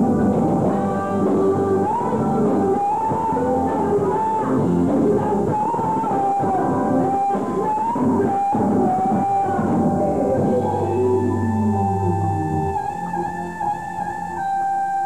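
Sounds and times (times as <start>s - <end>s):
drum kit: 0.0s - 14.3s
blues-rock band playing: 0.0s - 14.8s
electric bass: 0.0s - 15.0s
sliding lead melody: 0.0s - 15.0s.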